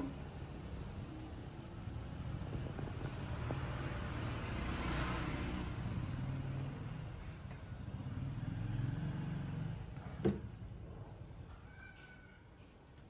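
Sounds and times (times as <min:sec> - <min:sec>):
vehicle engine rumble passing: 0:00.0 - 0:11.6.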